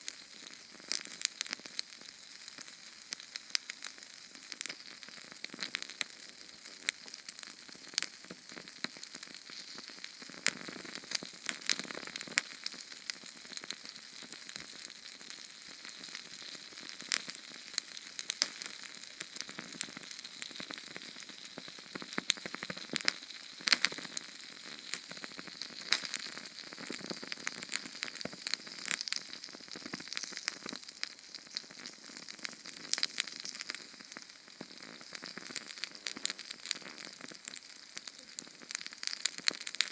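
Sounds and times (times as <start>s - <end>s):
flame crackling and popping: 0.0s - 39.9s.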